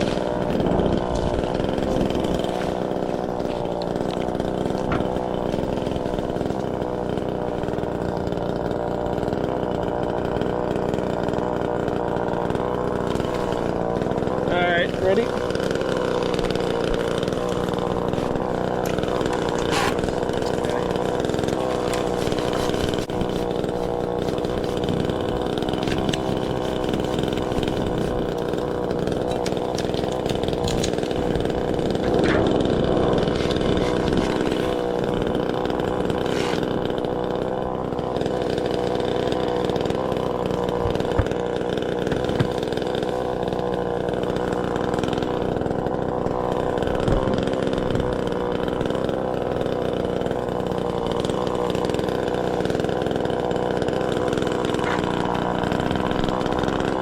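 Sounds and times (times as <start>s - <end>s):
chainsaw running at high speed: 0.0s - 57.0s.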